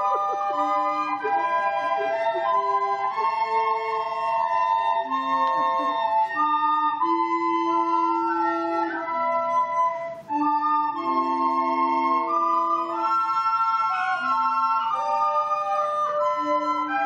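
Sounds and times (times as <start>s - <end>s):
recorder ensemble playing chords: 0.0s - 17.0s.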